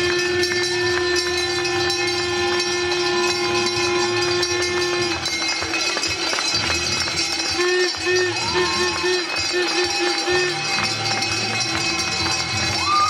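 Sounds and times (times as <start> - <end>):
horns holding long notes: 0.0 - 13.0.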